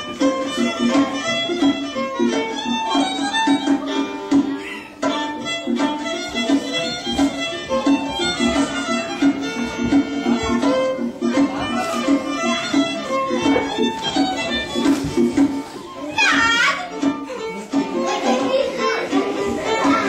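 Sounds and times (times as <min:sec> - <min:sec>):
instrumental music with quick notes: 0:00.0 - 0:20.0.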